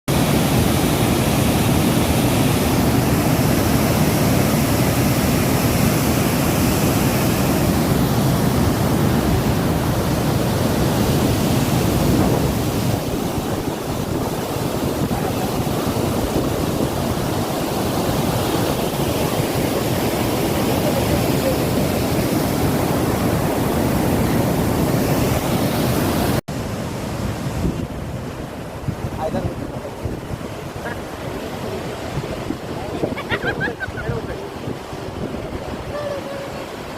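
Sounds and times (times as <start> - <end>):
water rushing through dam gates: 0.1 - 36.9.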